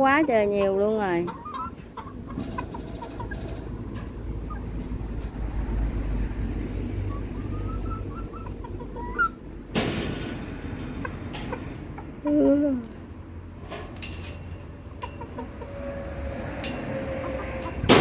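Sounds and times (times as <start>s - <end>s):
chickens clucking: 0.0s - 13.2s, 14.7s - 18.0s.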